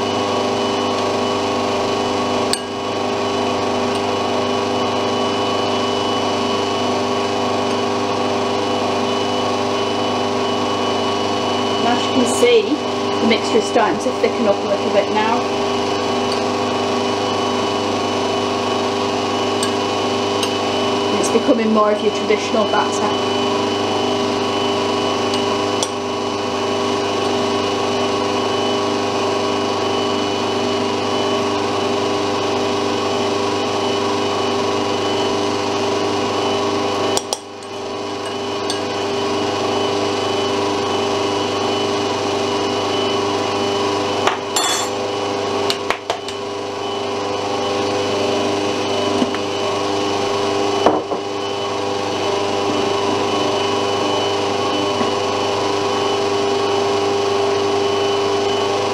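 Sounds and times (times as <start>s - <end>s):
stand mixer motor humming: 0.0s - 58.9s.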